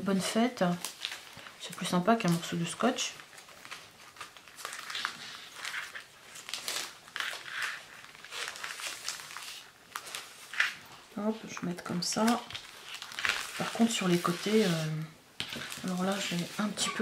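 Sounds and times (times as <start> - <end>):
cellophane crinkling: 0.2 - 17.0.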